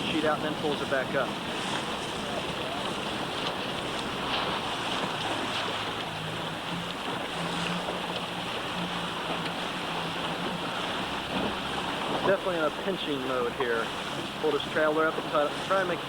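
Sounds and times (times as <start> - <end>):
wind buffeting microphone: 0.0 - 14.6
waves washing: 0.0 - 16.0.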